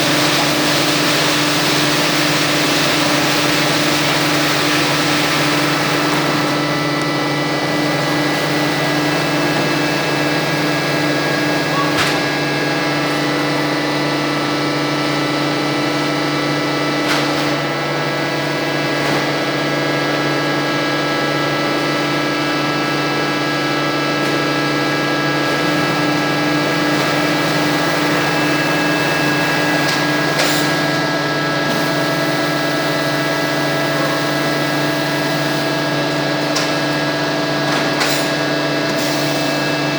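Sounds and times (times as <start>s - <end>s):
lathe machinery humming: 0.0s - 39.9s.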